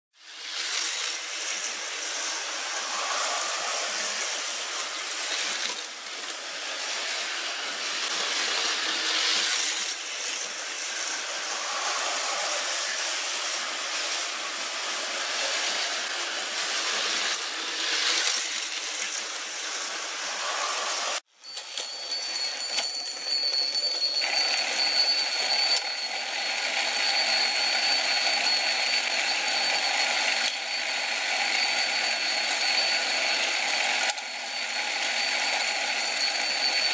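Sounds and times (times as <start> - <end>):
slot car motors whirring: 0.4 - 36.9.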